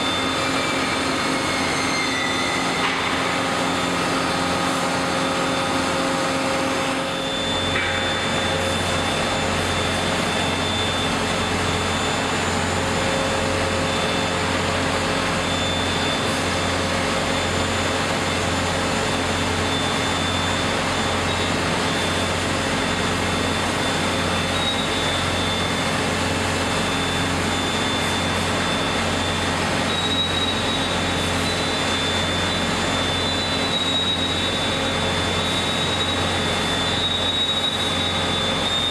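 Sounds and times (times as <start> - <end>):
industrial machine noise: 0.0 - 38.9
thin high whine: 0.0 - 38.9.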